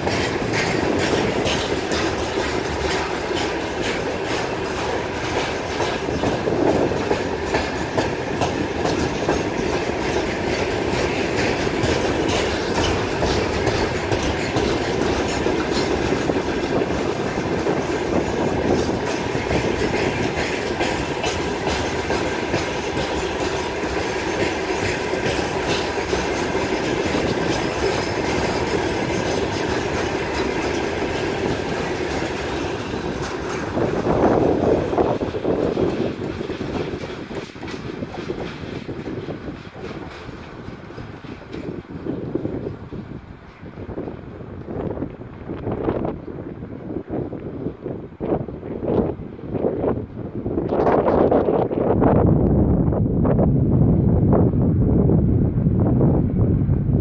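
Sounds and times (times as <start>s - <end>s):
wheels clicking over rail joints: 0.0s - 51.7s
freight train rolling past: 0.0s - 57.0s.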